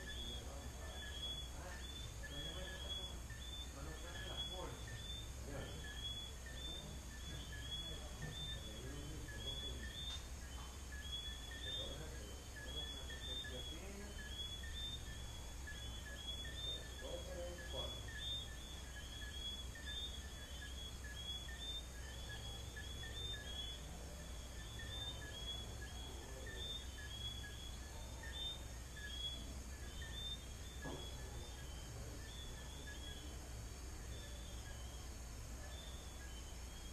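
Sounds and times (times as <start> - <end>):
constant low hum: 0.0 - 36.9
crickets trilling: 0.0 - 36.9
frogs chirping: 0.0 - 36.9.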